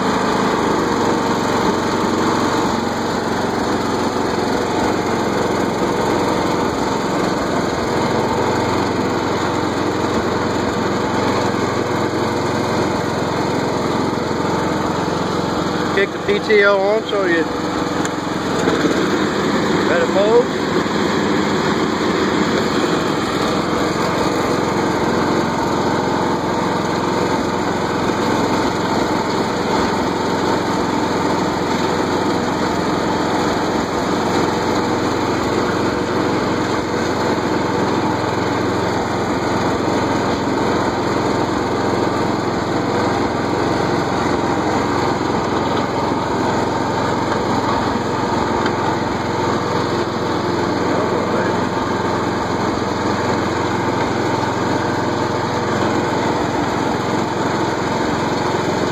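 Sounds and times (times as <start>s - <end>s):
riding mower engine mowing: 0.0s - 58.9s.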